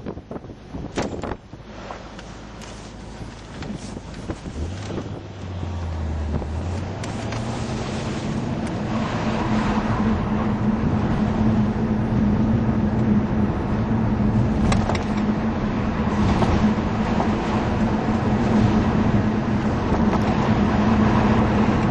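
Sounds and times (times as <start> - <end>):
car engine humming: 0.0 - 21.9
tyre and road noise: 0.0 - 21.9.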